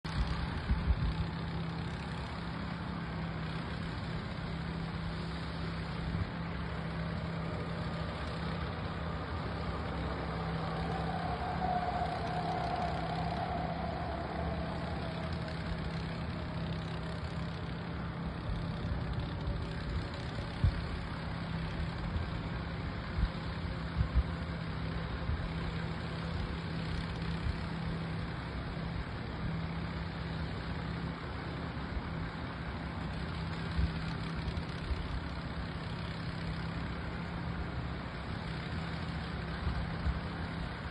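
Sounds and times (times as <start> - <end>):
machinery engine droning: 0.0 - 40.9
faint whine: 0.1 - 40.9.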